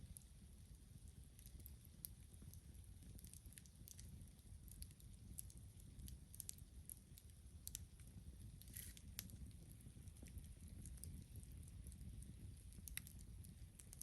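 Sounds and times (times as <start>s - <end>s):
campfire crackling: 0.0s - 14.0s
low steady rumble: 0.0s - 14.0s.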